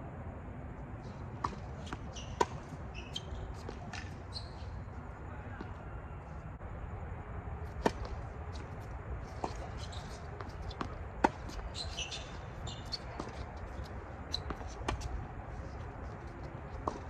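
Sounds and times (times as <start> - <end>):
racquets hitting tennis ball: 1.0 - 5.9, 7.6 - 17.0
tennis ball bouncing: 1.1 - 5.8, 7.6 - 17.0.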